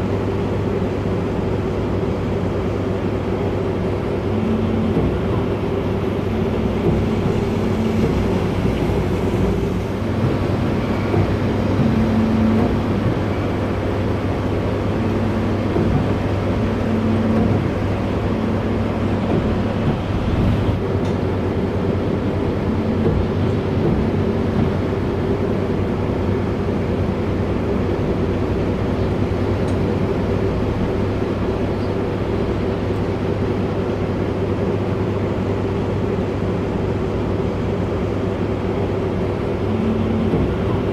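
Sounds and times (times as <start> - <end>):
ferry engines droning: 0.0 - 40.9.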